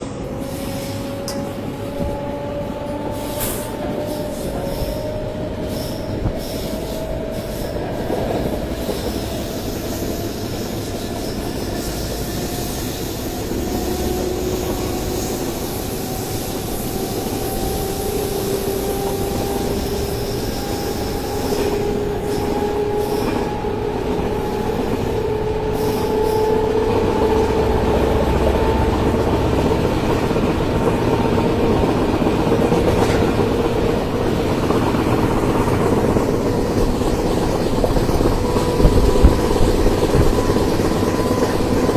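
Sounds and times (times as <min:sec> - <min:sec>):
locomotive running rumble: 0:00.0 - 0:41.9
traction motors whining: 0:00.1 - 0:41.9.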